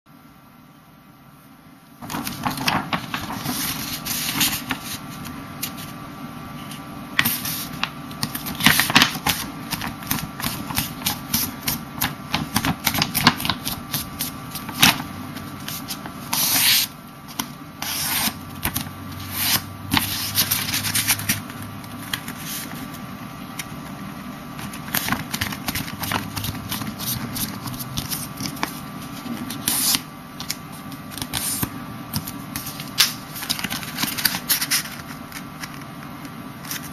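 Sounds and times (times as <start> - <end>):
steady low hum: 0.1 - 36.9
paper being folded and creased: 2.0 - 6.0, 7.2 - 23.8, 24.6 - 36.9.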